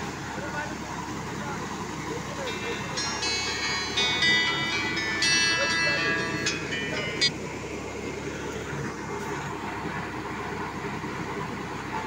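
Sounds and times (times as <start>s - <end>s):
machinery engine rumble: 0.0s - 12.0s.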